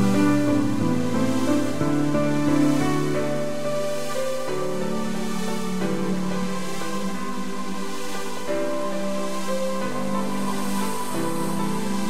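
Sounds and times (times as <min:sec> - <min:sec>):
soft sustained music chords: 0:00.0 - 0:12.0.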